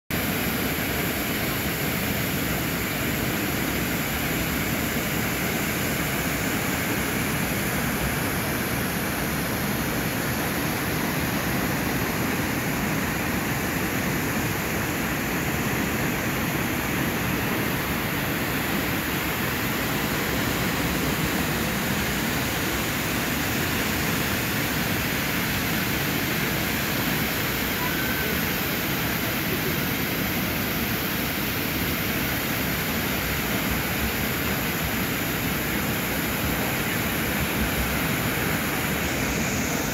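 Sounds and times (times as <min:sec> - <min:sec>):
waterfall rushing: 0:00.2 - 0:39.9.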